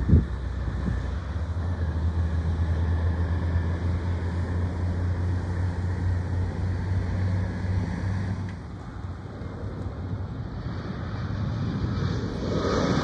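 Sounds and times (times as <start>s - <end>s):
heavy engine droning: 0.0s - 13.0s.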